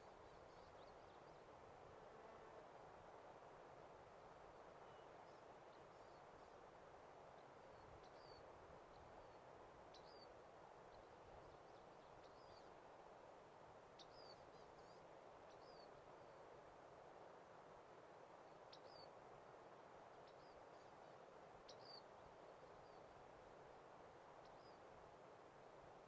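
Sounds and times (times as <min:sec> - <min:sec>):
soft outdoor ambience hiss: 0:00.0 - 0:26.0.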